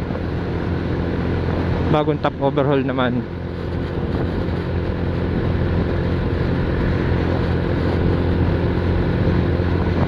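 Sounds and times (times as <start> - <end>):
scooter engine droning: 0.0 - 10.0.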